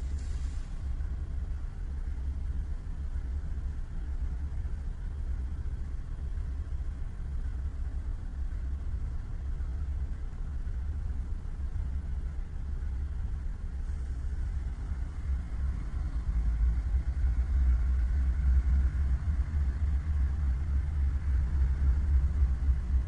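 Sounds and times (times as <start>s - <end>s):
diesel locomotive engine running: 0.0s - 23.0s.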